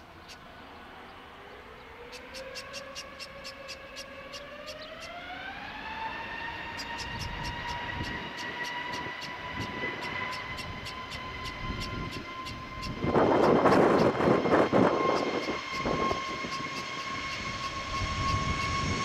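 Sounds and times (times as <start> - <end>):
jet engine whine: 0.0 - 19.0.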